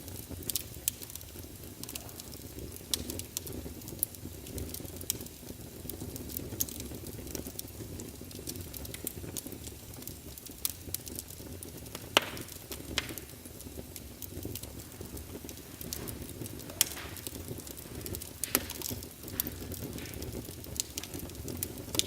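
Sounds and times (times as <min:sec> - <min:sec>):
firewood crackling and popping: 0:00.0 - 0:22.0
low rush of flame: 0:00.0 - 0:22.0.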